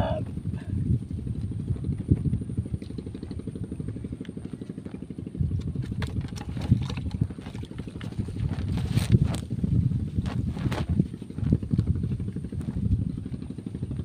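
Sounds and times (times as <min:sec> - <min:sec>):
small engine rumbling: 0:00.0 - 0:14.0.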